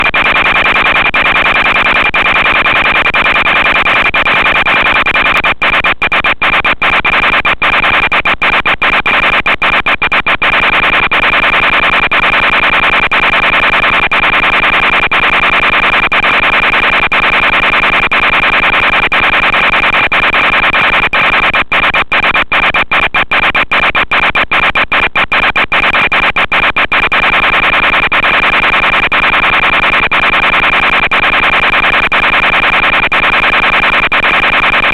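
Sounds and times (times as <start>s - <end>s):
harsh buzz with high whine: 0.0s - 34.9s.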